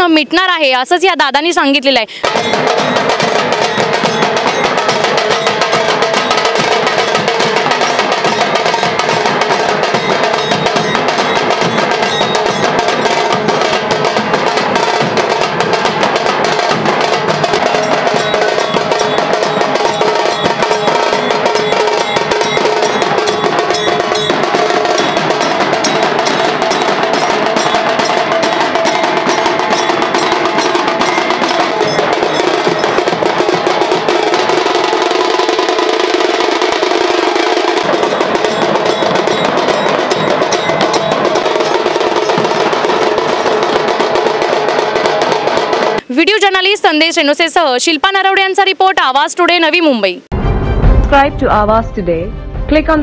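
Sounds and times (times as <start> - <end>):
fast drumming: 0.0 - 50.0.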